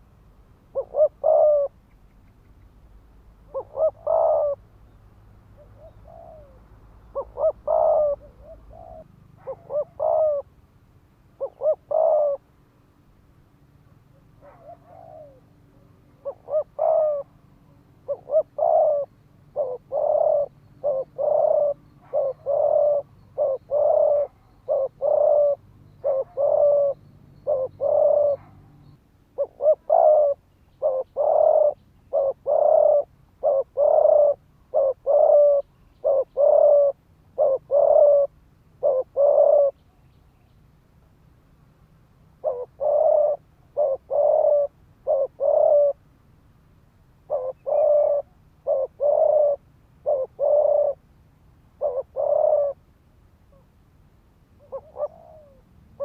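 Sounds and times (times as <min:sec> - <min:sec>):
dove cooing: 0:00.7 - 0:02.6, 0:03.4 - 0:04.9, 0:05.5 - 0:10.6, 0:11.4 - 0:12.5, 0:13.8 - 0:28.7, 0:29.4 - 0:40.5, 0:42.4 - 0:46.0, 0:47.2 - 0:51.0, 0:51.7 - 0:52.9, 0:54.6 - 0:56.0.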